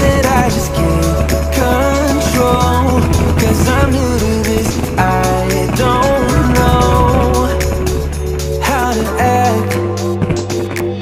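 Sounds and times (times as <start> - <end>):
pop song: 0.0 - 11.0.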